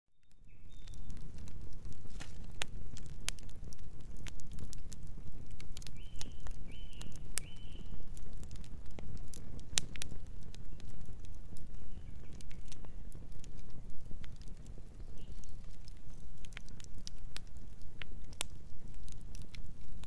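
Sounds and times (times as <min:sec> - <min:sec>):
fire crackling and popping: 0:00.2 - 0:20.0.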